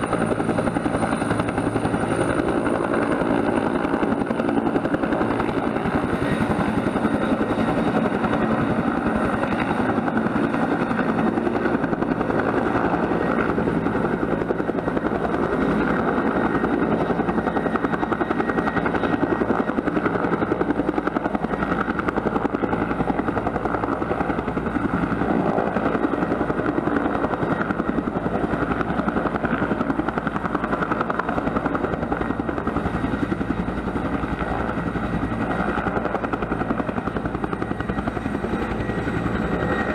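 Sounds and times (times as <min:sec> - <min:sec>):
helicopter rotor beating: 0:00.0 - 0:39.9
turbine engine whine: 0:00.0 - 0:39.9.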